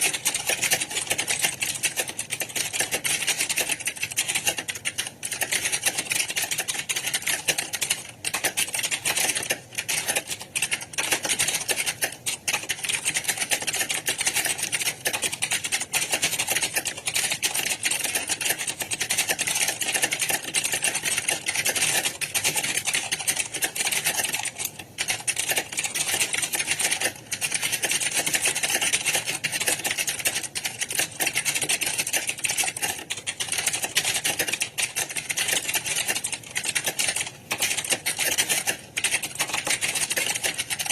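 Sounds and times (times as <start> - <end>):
many keyboards typing clatter: 0.0 - 40.9.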